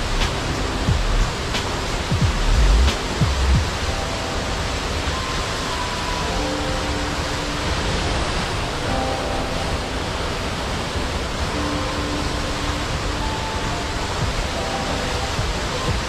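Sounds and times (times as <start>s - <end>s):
soft background music: 0.0s - 16.0s
waterfall rushing: 0.0s - 16.0s.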